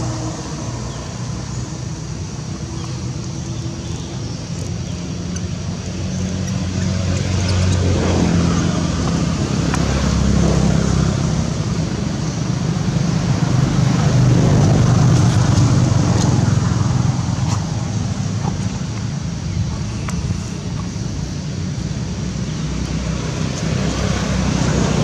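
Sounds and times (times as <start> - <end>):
low rumbling noise: 0.0 - 25.0.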